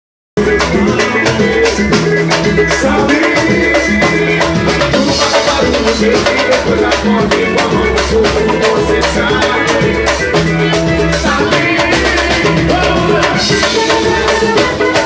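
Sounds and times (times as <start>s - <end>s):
drums and shaker percussion: 0.4s - 15.0s
live band music: 0.4s - 15.0s.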